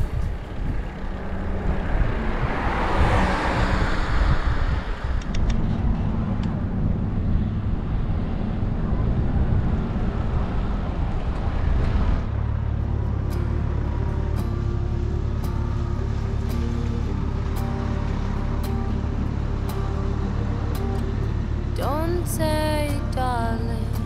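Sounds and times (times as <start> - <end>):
low vehicle rumble: 0.0 - 24.0
vehicle rushing sound: 0.0 - 24.0.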